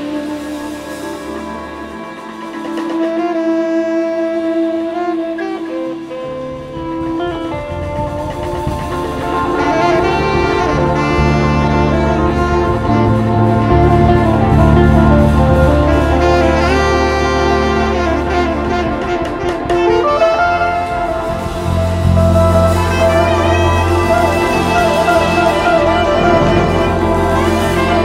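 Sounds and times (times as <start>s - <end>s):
live band music: 0.0s - 28.0s.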